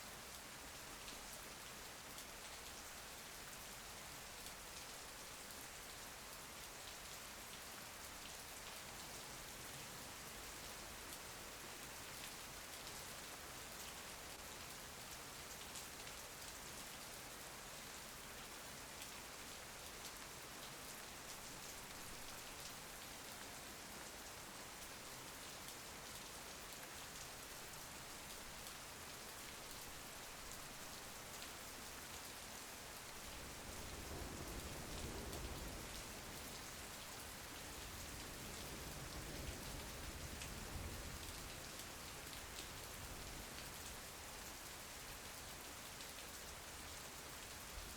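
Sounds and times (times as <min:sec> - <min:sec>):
rain pattering on a window: 0:00.1 - 0:47.9.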